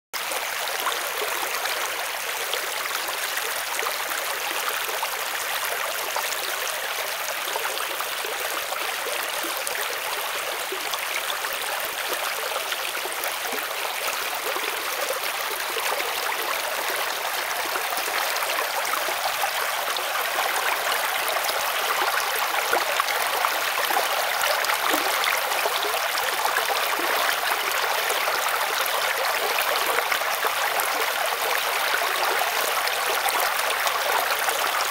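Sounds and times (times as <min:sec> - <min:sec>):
brook babbling over rocks: 0:00.1 - 0:34.9.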